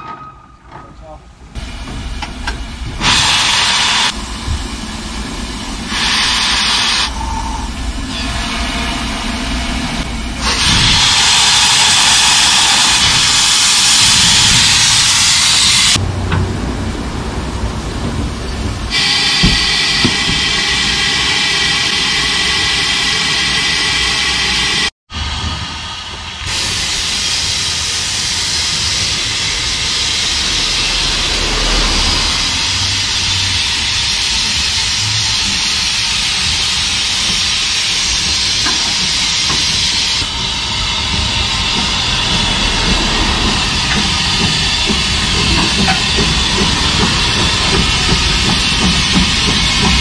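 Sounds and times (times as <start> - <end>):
steam engine hissing steam: 1.6 - 16.0, 18.9 - 50.0.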